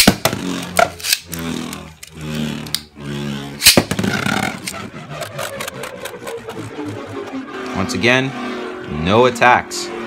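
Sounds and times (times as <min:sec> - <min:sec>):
spinning tops whirring and scraping: 0:00.0 - 0:09.0.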